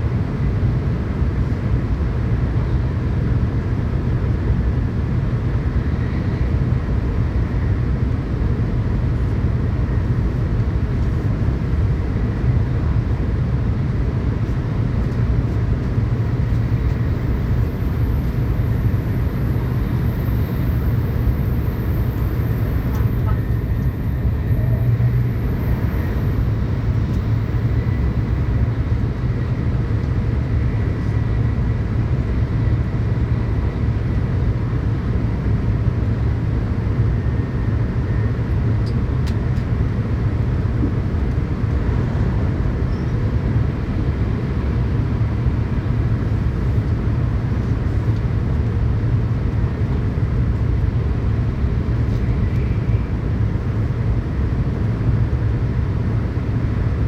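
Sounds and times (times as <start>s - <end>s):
train rumbling heard inside carriage: 0.0s - 57.0s.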